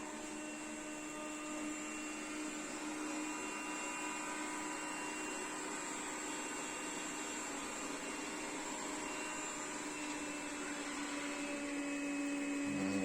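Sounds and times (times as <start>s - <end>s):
robot vacuum humming and whining: 0.0s - 13.0s.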